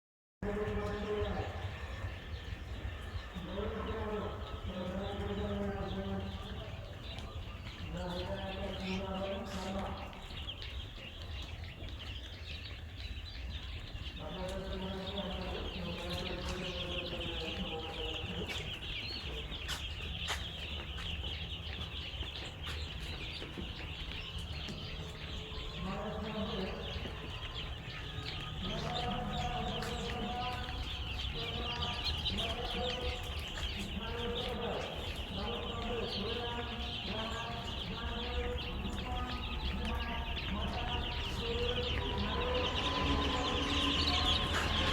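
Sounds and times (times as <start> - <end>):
chicks peeping: 0.4 - 44.9.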